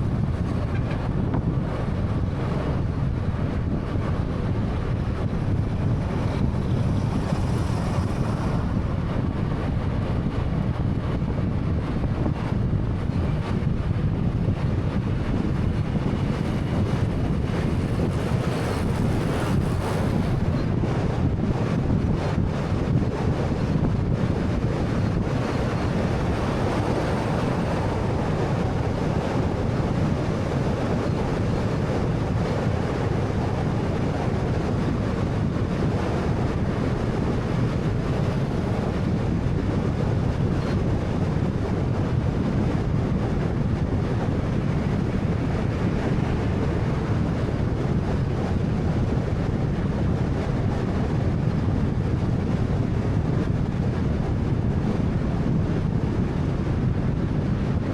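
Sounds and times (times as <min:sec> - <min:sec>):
car road and tyre noise: 0:00.0 - 0:57.9.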